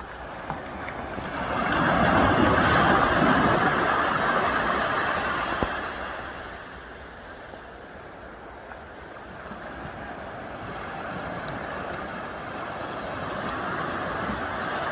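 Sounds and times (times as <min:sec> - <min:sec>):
surf rushing: 0:00.0 - 0:14.9.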